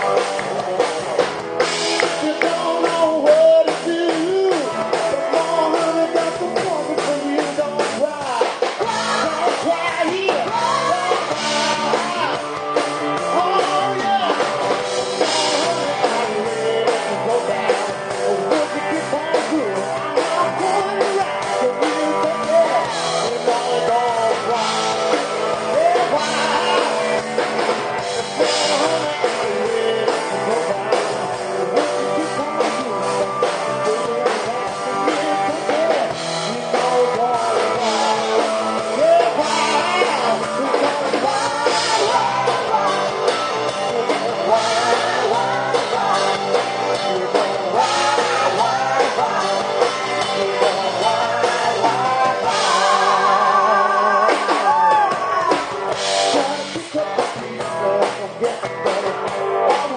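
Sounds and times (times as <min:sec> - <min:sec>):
live rock band playing: 0:00.0 - 0:59.9
person singing: 0:00.0 - 0:59.9.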